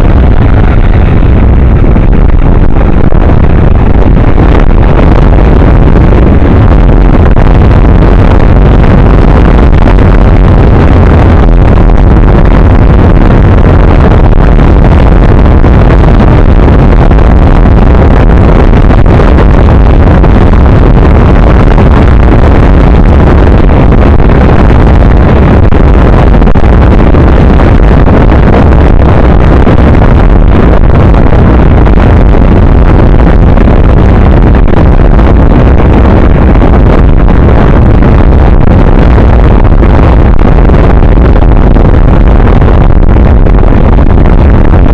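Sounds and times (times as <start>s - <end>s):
wind roar: 0.0s - 44.9s.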